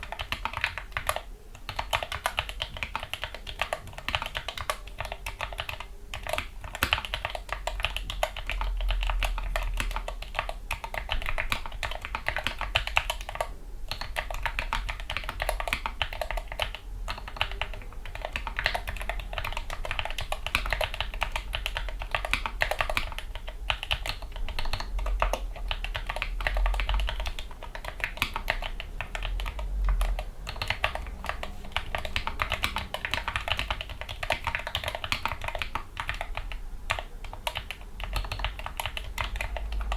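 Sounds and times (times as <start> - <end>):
keyboard typing clacks: 0.0 - 39.9.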